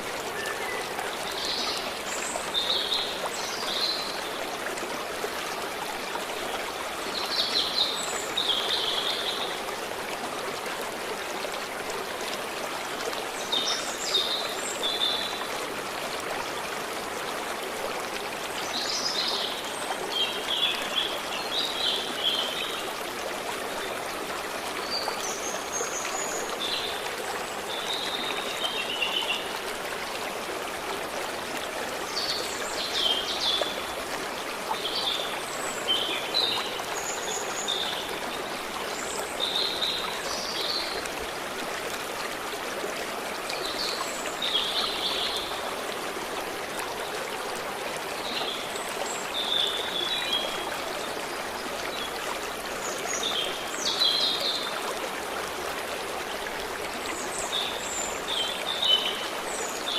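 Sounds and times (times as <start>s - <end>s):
stream running: 0.0s - 59.9s.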